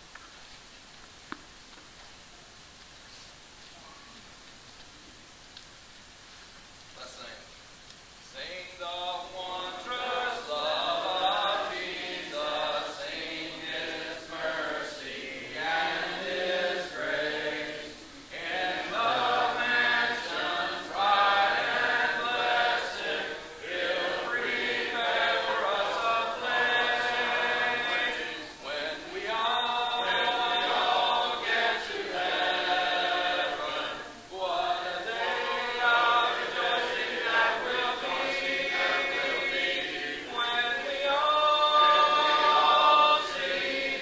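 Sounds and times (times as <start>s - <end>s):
congregation singing a hymn: 8.3s - 44.0s.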